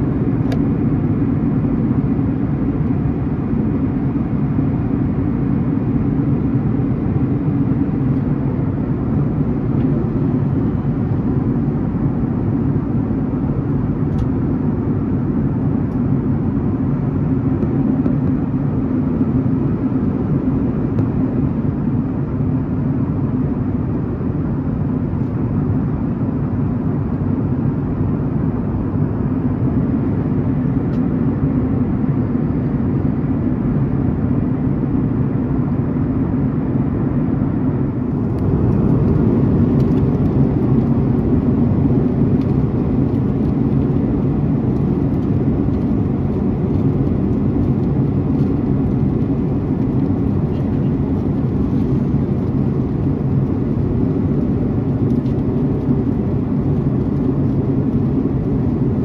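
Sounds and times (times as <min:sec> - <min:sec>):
airplane cabin drone: 0:00.0 - 0:59.0
turbofan engine and airflow: 0:00.0 - 0:59.0.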